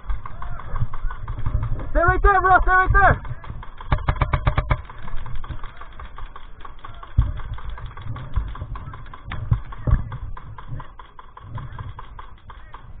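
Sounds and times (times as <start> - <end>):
airsoft guns clicking shots: 0.0 - 13.0
dull thumps: 0.0 - 13.0.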